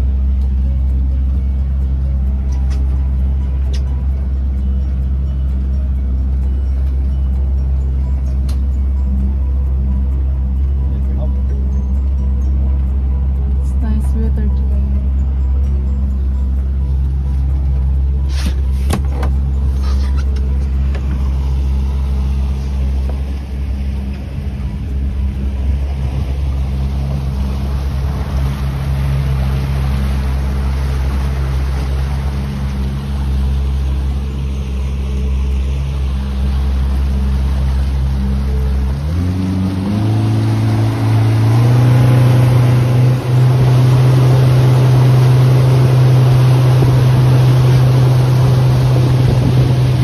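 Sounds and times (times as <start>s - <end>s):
boat motor running: 0.0s - 50.0s.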